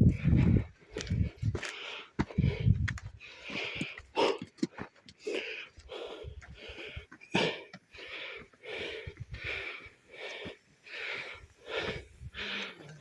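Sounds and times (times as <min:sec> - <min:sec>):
heavy rhythmic breathing: 0:00.0 - 0:13.0.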